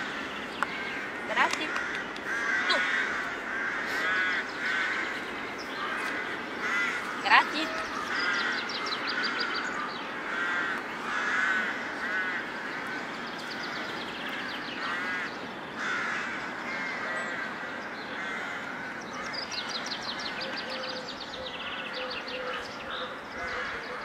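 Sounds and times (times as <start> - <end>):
crows cawing: 0.0 - 24.0
outdoor background noise: 0.0 - 24.0.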